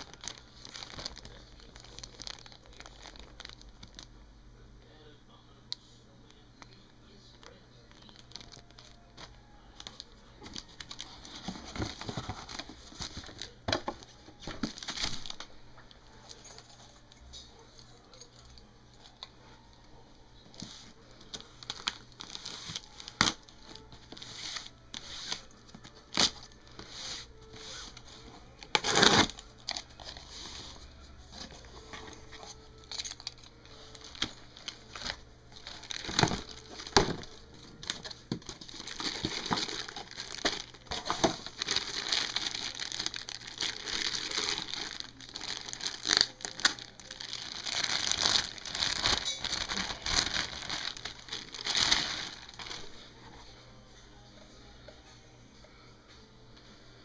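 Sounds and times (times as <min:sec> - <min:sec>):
packaging crinkling and rustling: 0:00.0 - 0:04.2, 0:06.6 - 0:16.6, 0:20.5 - 0:53.4.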